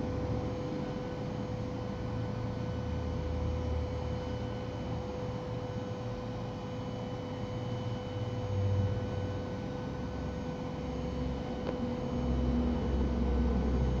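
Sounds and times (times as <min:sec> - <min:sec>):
low machine hum: 0:00.0 - 0:14.0
milling spindle whine: 0:00.0 - 0:14.0.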